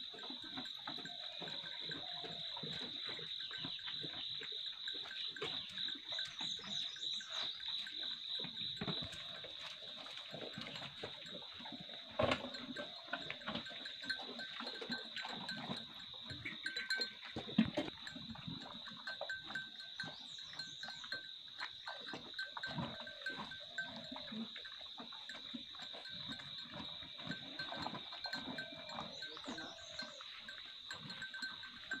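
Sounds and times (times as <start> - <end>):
cattle feeding from plastic bowls: 0.0 - 32.0.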